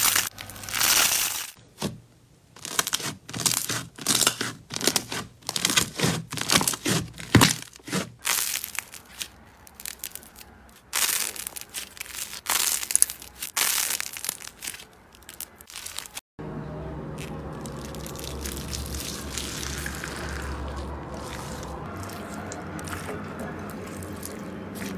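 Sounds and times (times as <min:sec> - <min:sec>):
stress ball crunching crackles: 0:00.0 - 0:02.0, 0:02.6 - 0:16.2, 0:17.2 - 0:24.9.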